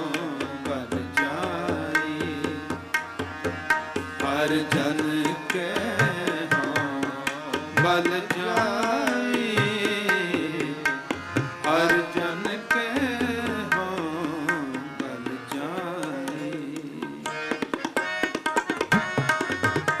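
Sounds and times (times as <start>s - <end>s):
tabla playing: 0.0s - 20.0s.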